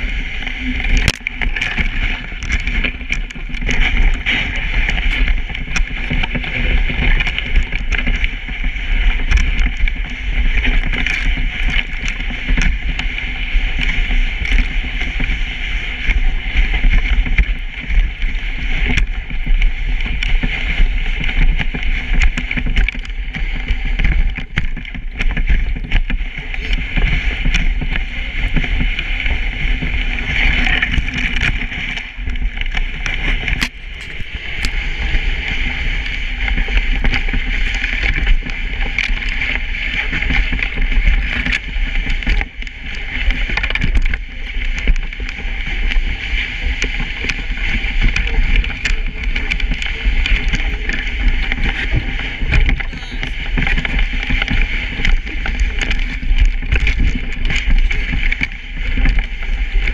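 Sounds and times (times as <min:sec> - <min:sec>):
low rumble: 0:00.0 - 0:59.9
sled clicks and knocks: 0:00.0 - 0:59.9
sled runners sliding on snow: 0:00.0 - 0:59.9.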